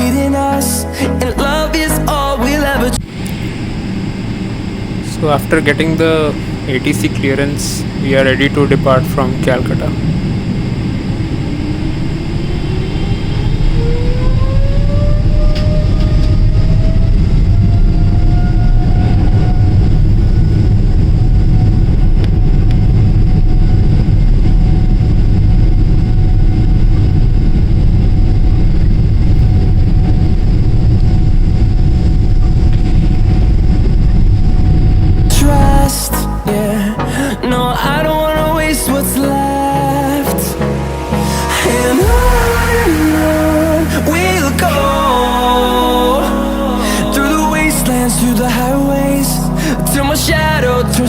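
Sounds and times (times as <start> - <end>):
deep engine rumble: 0.0 - 51.0
jet engine whine: 3.0 - 51.0.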